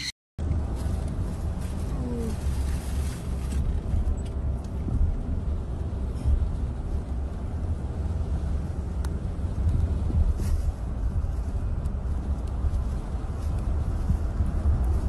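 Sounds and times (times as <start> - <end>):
car road and engine rumble: 0.4 - 15.0.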